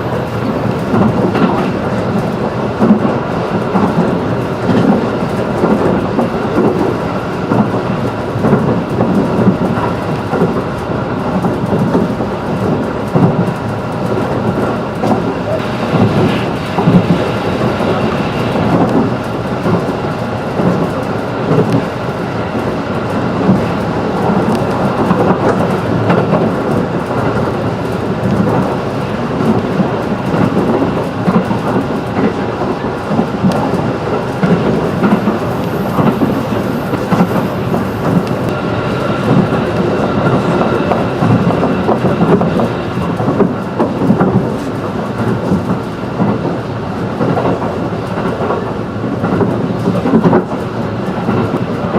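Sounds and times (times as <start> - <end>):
train wheels rumbling on rails: 0.0 - 51.9.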